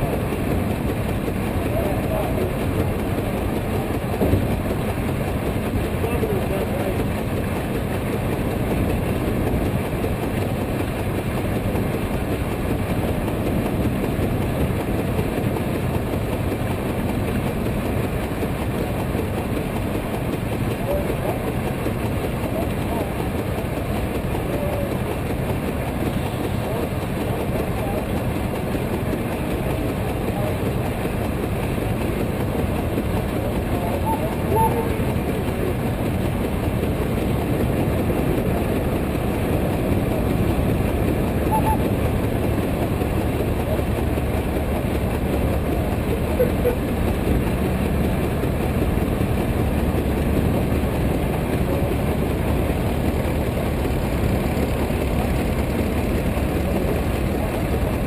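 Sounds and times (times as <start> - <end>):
clatter of engine parts: 0.0 - 58.0
steam engine exhaust chuffing: 0.0 - 58.0.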